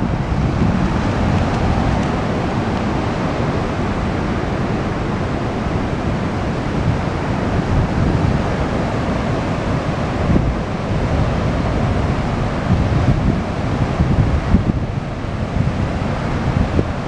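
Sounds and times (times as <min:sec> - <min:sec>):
waves breaking on shore: 0:00.0 - 0:17.0
wind on microphone: 0:00.0 - 0:17.0.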